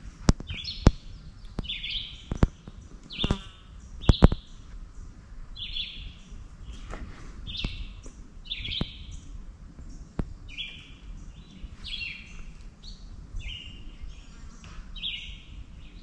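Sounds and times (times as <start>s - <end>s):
wind rumble on microphone: 0.0s - 16.0s
bird song: 0.3s - 16.0s.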